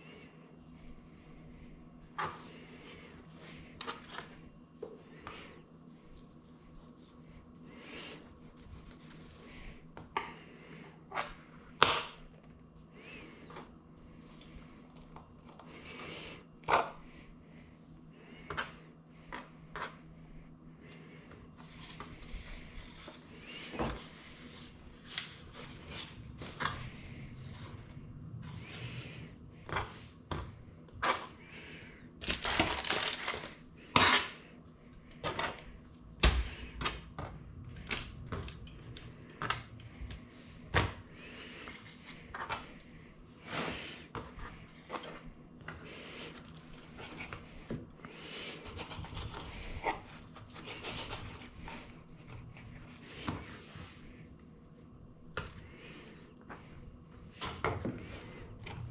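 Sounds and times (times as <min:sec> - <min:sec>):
steady low hum: 0:00.0 - 0:58.9.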